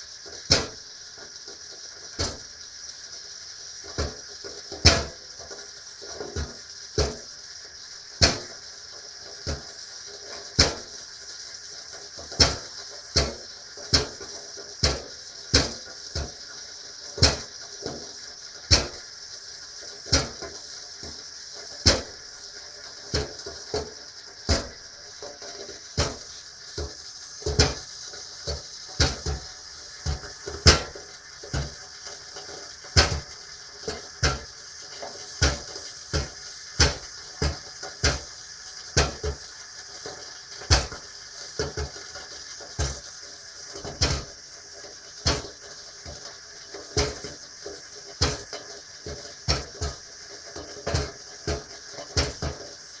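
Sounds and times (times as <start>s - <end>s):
kettle hissing: 0.0s - 53.0s.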